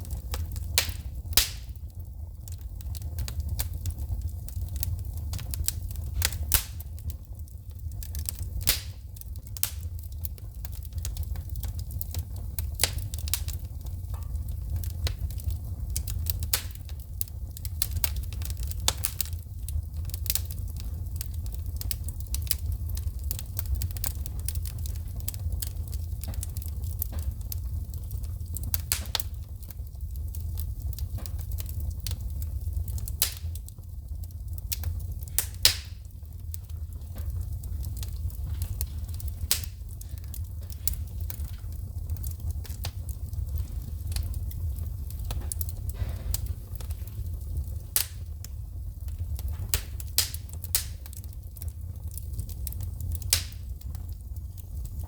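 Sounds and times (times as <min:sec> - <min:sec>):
sharp pops of sparks: 0:00.0 - 0:33.8, 0:34.6 - 0:55.0
low rumble of burning: 0:00.0 - 0:55.0
wood fire crackling: 0:00.0 - 0:55.0.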